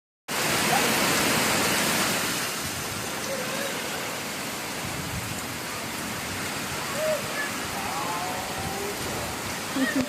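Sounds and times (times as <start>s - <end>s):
heavy rain pouring: 0.3s - 10.0s.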